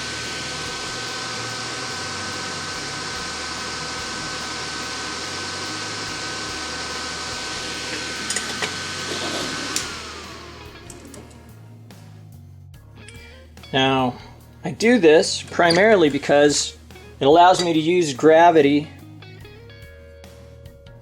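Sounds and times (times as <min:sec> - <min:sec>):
electric fan running: 0:00.0 - 0:12.2, 0:13.0 - 0:19.2.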